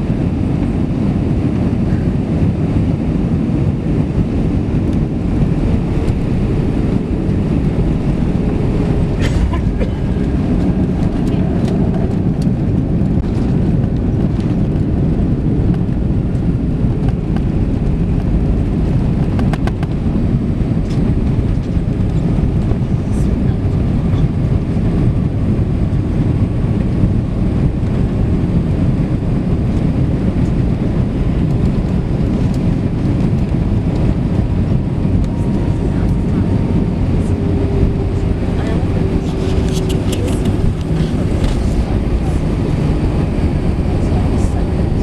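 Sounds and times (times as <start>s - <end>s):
airliner cabin engine rumble: 0.0s - 45.0s.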